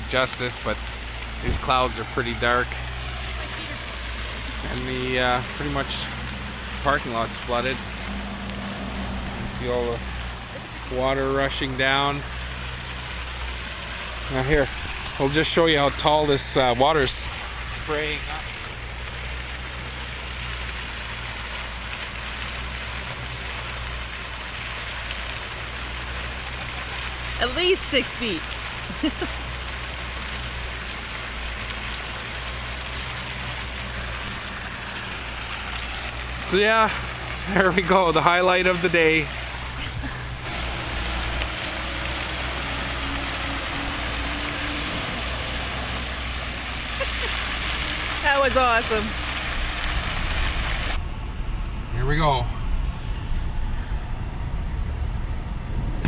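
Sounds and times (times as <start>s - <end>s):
floodwater jetting hiss: 0.0s - 51.0s
water geyser spraying: 0.0s - 55.2s
car engine: 0.0s - 56.0s
low rumble: 0.0s - 56.0s.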